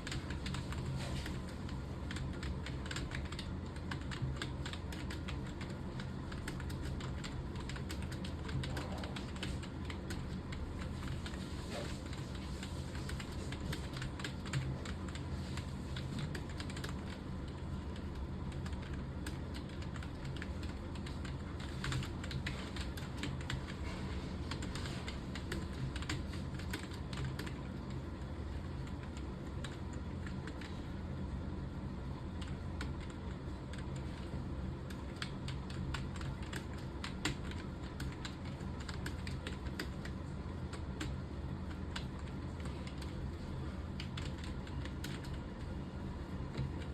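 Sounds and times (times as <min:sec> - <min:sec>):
keyboard typing: 0:00.0 - 0:31.0, 0:32.2 - 0:46.9.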